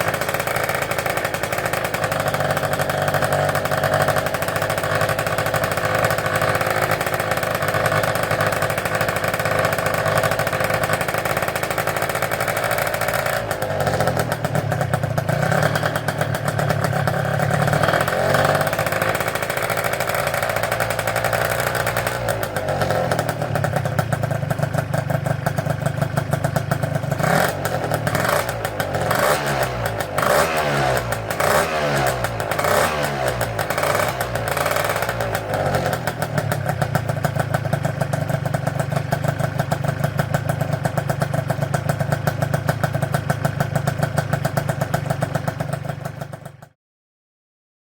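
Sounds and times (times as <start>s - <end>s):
scooter engine revving: 0.0s - 46.6s.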